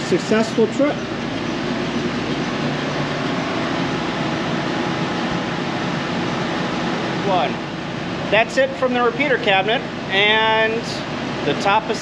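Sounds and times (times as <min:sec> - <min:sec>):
ventilation fans rushing: 0:00.0 - 0:12.0.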